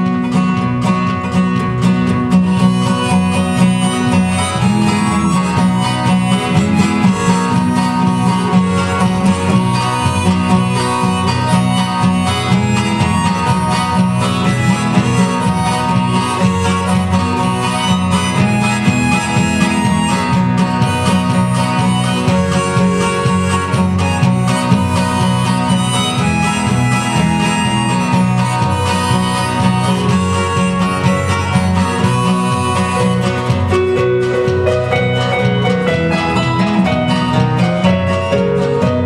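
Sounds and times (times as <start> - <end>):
bass guitar: 0.0 - 39.0
harmonica melody: 0.0 - 39.0
keyboard: 0.0 - 39.0
strummed acoustic guitar: 0.0 - 39.0.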